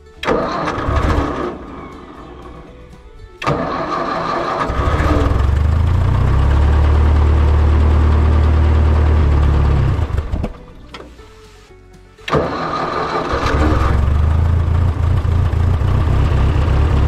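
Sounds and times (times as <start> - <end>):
tractor engine running: 0.0 - 11.6, 12.2 - 17.0
tractor engine cranking: 0.0 - 17.0.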